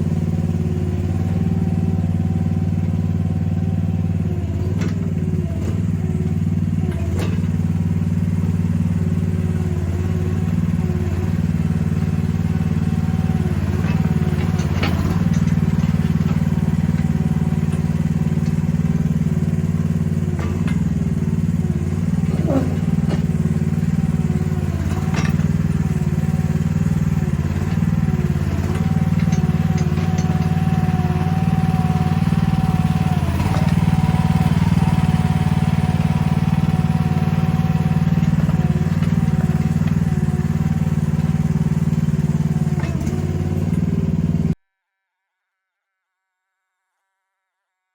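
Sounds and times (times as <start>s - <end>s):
excavator engine running: 0.0s - 44.6s.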